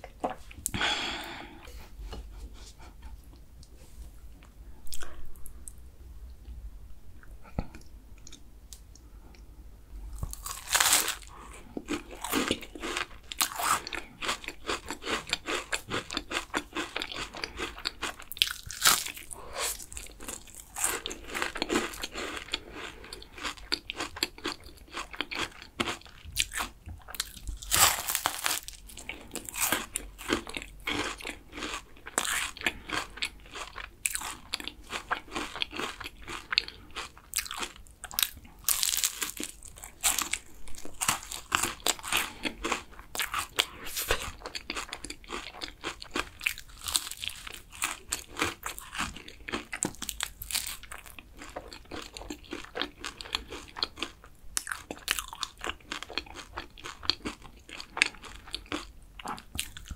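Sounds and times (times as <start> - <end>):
chewing: 10.2 - 59.9
pastry crunching: 10.2 - 59.9.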